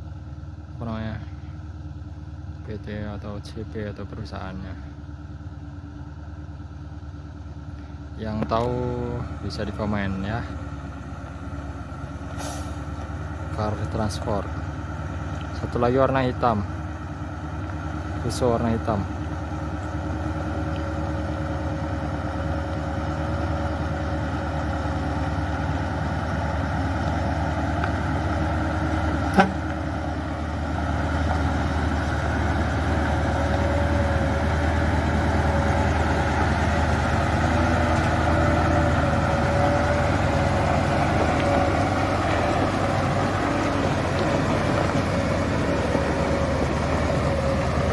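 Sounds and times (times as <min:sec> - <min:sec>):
diesel truck engine: 0:00.0 - 0:47.9.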